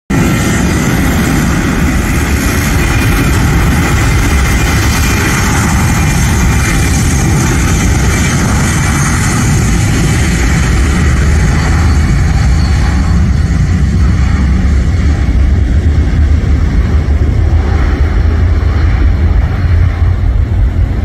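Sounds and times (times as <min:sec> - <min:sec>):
jet engines roaring at takeoff: 0:00.1 - 0:21.0.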